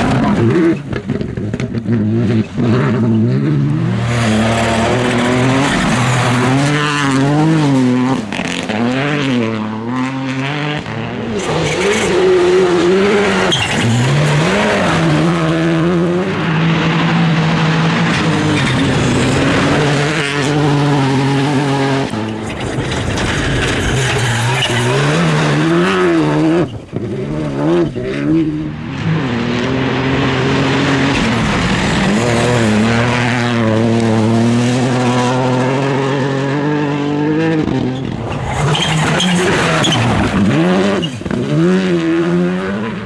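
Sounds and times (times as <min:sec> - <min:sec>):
rally car engine revving: 0:00.0 - 0:43.0.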